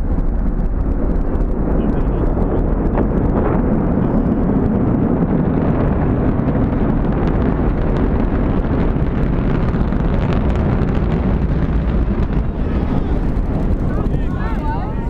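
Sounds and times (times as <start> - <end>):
faint crackles: 0.0 - 15.0
fireball low rumble: 0.0 - 15.0.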